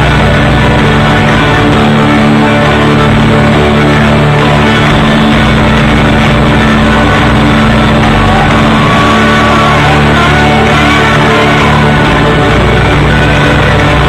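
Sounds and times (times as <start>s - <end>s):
mandolin: 0.0s - 14.0s
upright bass: 0.0s - 14.0s.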